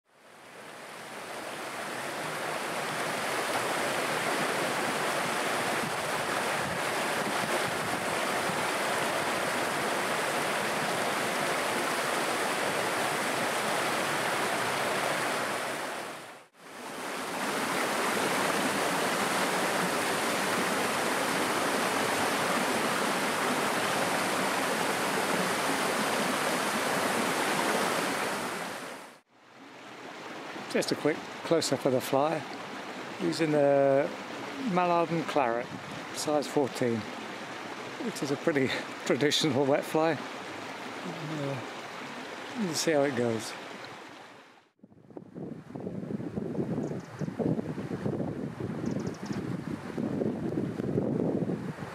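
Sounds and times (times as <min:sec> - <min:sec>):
stream rushing over stones: 0:00.1 - 0:44.8.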